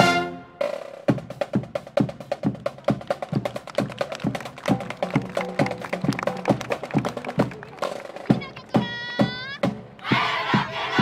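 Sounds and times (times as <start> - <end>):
marching drumline cadence: 0.0 - 11.0.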